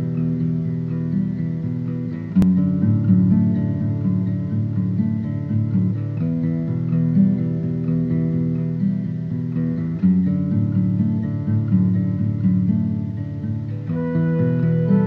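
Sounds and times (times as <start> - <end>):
guitar chords: 0.0 - 15.0.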